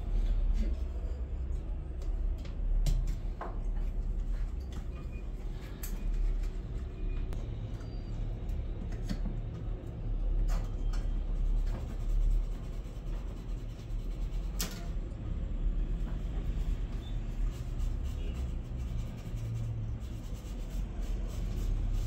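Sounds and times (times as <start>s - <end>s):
low room rumble: 0.0s - 22.0s.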